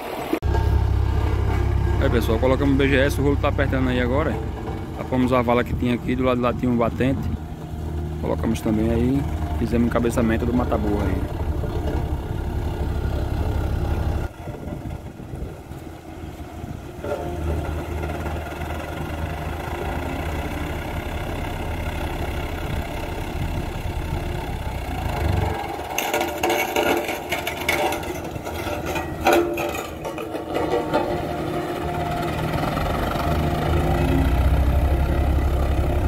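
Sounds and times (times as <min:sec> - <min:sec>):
road roller diesel engine: 0:00.0 - 0:36.0
heavy low hum: 0:00.4 - 0:36.0.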